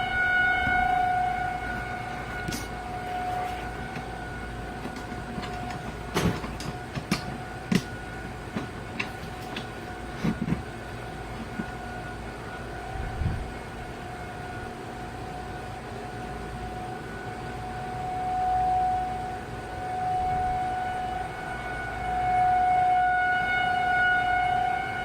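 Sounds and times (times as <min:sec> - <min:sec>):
rotating warning siren: 0:00.0 - 0:25.0.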